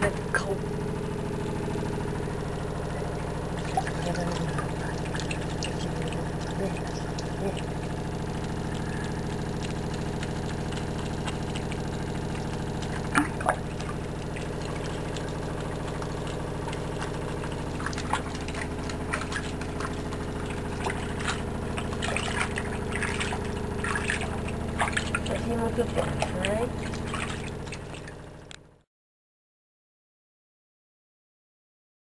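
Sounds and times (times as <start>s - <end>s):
water sloshing in a sink: 0.0s - 28.6s
mechanical hum: 0.0s - 28.8s.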